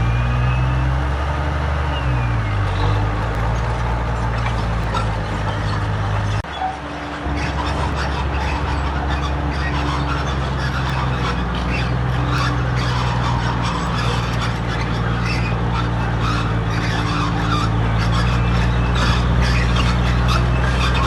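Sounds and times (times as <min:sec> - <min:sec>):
diesel machine engine hum: 0:00.0 - 0:21.0
metal scraping and rasping: 0:02.8 - 0:21.0.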